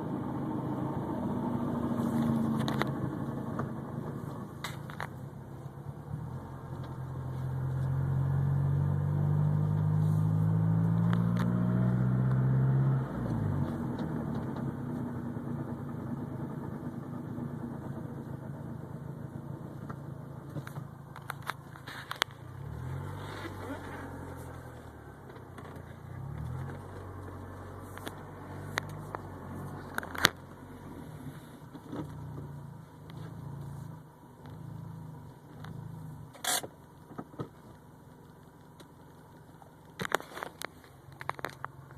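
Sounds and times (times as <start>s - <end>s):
car engine revving: 0.0s - 36.6s.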